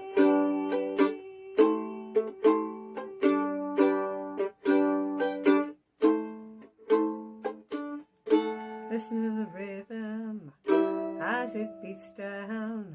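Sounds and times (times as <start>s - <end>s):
mandolin strumming chords: 0.0s - 9.8s, 10.6s - 12.4s.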